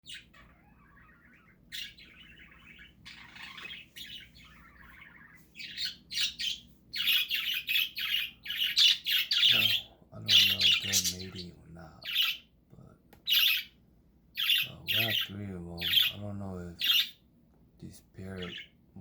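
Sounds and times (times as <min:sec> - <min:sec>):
budgerigars chirping: 0:00.0 - 0:12.5, 0:13.3 - 0:17.2, 0:18.2 - 0:18.8.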